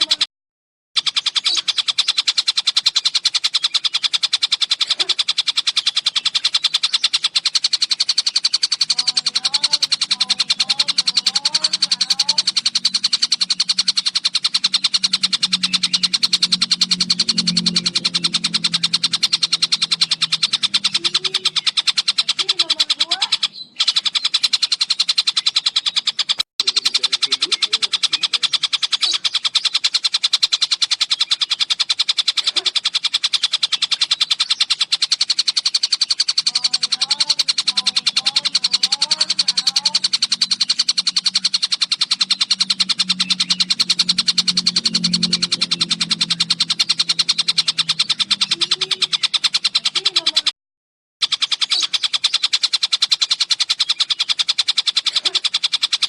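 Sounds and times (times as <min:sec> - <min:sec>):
bird trilling: 0:00.0 - 0:00.3, 0:01.0 - 0:50.5, 0:51.2 - 0:56.0.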